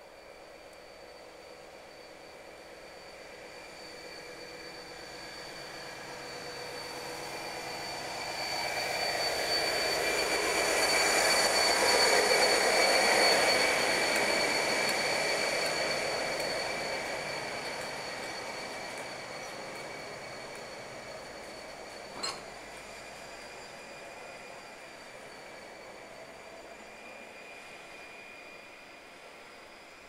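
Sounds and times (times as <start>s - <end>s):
diesel locomotive engine passing: 0.0s - 30.0s.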